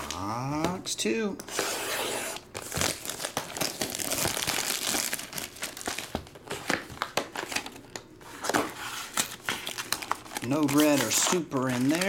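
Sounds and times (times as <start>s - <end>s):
shrink-wrap crinkling and tearing: 2.2s - 12.0s.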